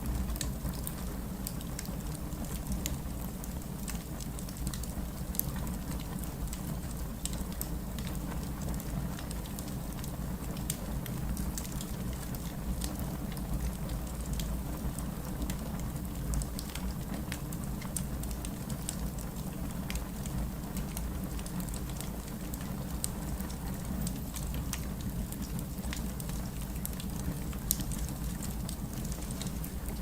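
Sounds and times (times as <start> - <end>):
steady rain: 0.0 - 30.0
wood fire crackling: 0.0 - 30.0.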